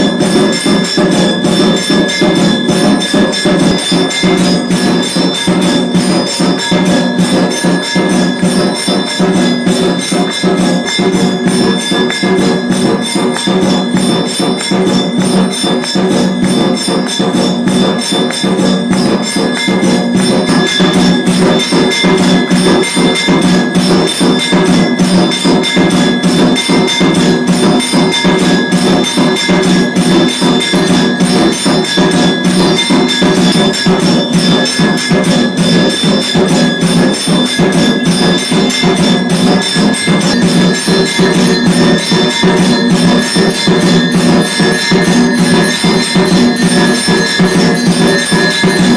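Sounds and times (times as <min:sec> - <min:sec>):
bells and percussion struck rhythmically: 0:00.0 - 0:48.9
ringing bell tones: 0:00.0 - 0:48.9.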